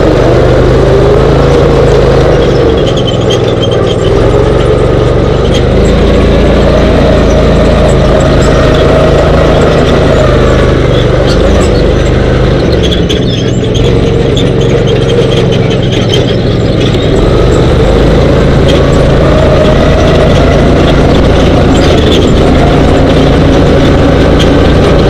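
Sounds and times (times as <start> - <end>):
dune buggy engine running: 0.0 - 25.0.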